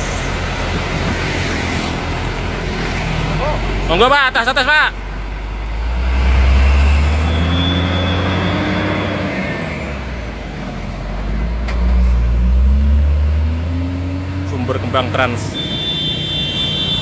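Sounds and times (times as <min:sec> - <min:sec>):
truck diesel engine revving: 0:00.0 - 0:17.0.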